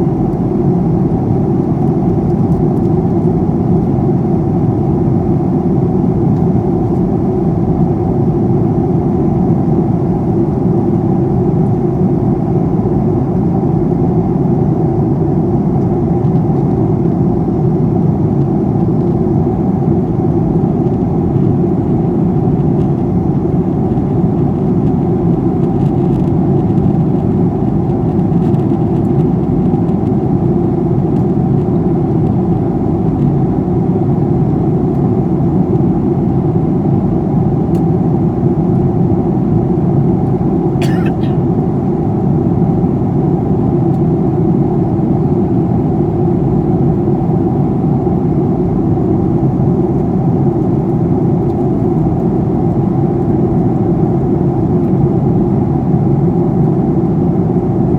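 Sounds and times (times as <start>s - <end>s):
airplane cabin engine roar: 0.0s - 57.9s.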